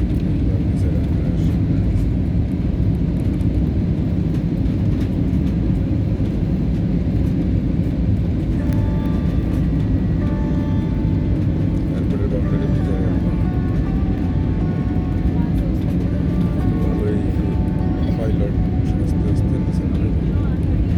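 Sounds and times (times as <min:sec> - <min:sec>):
airliner cabin rumble: 0:00.0 - 0:20.9.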